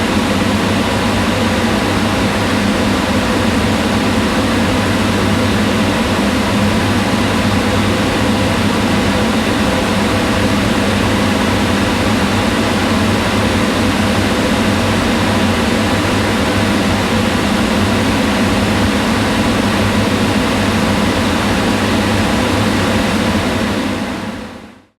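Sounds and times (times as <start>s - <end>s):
range hood fan running: 0.0s - 24.8s.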